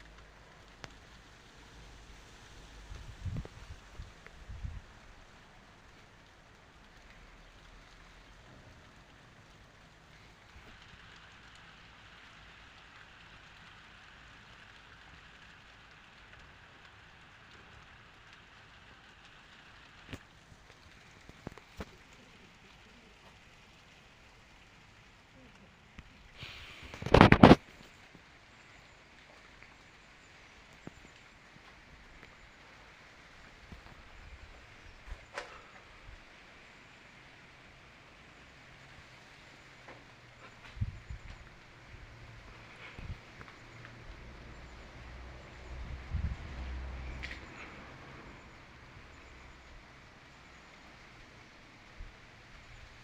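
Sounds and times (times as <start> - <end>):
rain hiss: 0.0 - 53.0
raindrop ticks: 0.0 - 53.0.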